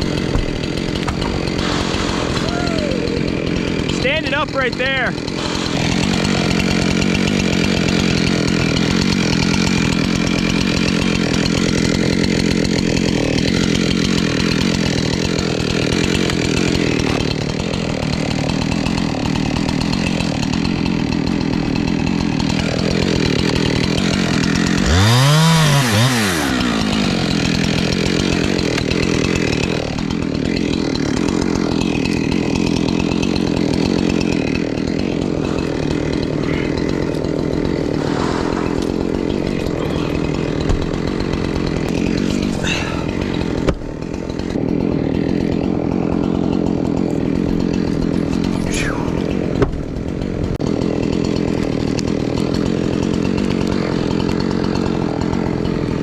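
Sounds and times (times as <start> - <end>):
chainsaw engine running: 0.0 - 56.0.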